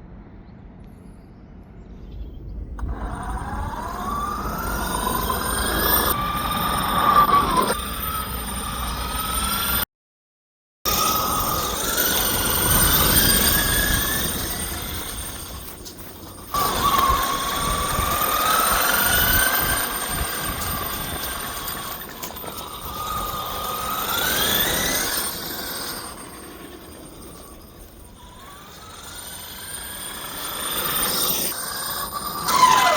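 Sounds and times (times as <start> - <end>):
wheels rumbling on rough ground: 2.6 - 9.8, 10.9 - 32.9
rc car motor whining: 2.8 - 9.8, 10.9 - 32.9.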